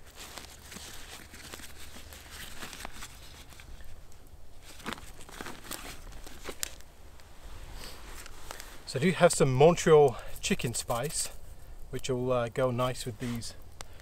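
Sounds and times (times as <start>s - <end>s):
rustling and crinkling: 0.0s - 11.7s, 12.8s - 14.0s.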